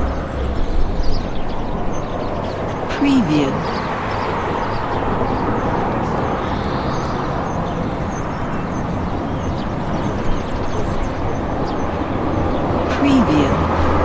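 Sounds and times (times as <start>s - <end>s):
traffic and street noise: 0.0s - 14.0s.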